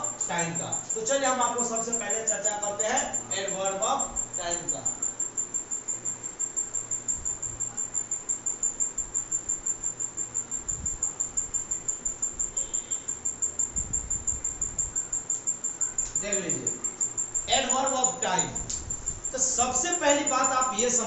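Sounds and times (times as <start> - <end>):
high-pitched insect chirping: 0.0 - 21.0.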